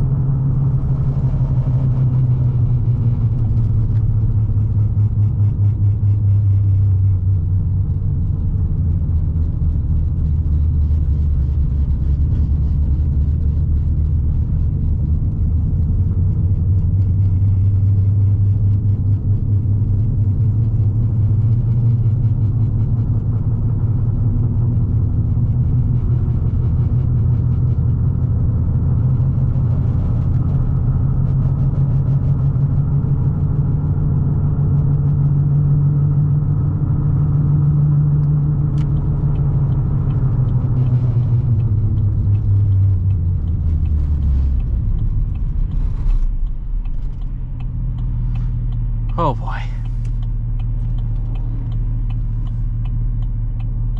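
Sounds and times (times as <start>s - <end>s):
truck engine low drone: 0.0s - 53.9s.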